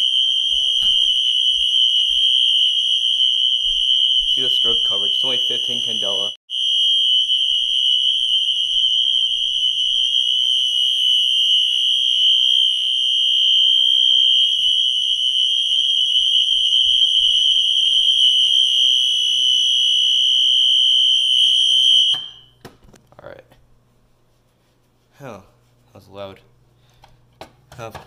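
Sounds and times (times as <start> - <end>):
fire alarm horn steady tone: 0.0 - 22.6.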